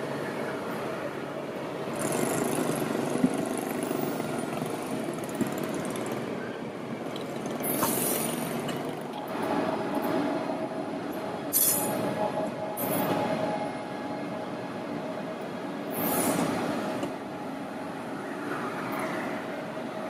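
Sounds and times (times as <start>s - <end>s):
train rolling past: 0.0s - 20.0s.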